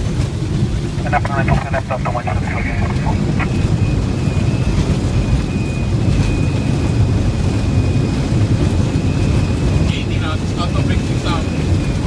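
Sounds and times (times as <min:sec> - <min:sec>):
jet engines in reverse thrust: 0:00.0 - 0:12.0.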